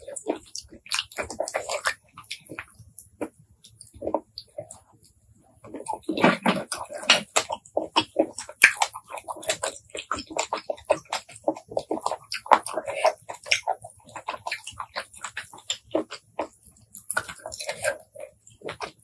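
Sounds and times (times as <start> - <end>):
wet chewing mouth sounds: 0.0 - 19.0.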